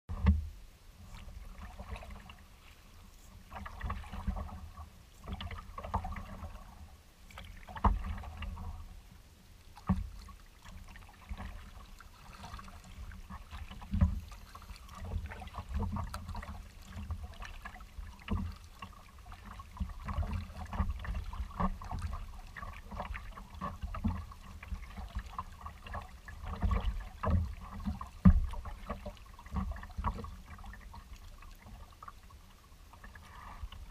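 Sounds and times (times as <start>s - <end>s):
kayak paddle strokes: 0.1s - 33.9s
waves lapping against a hull: 0.1s - 33.9s.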